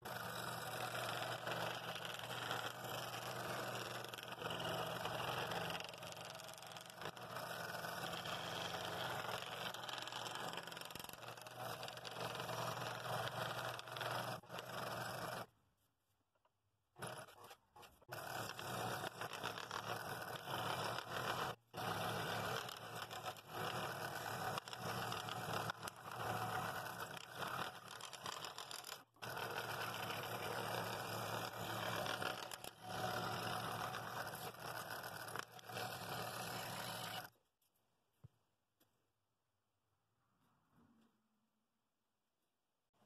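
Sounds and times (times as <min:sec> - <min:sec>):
scroll saw cutting wood: 0:00.0 - 0:15.5, 0:16.9 - 0:37.3.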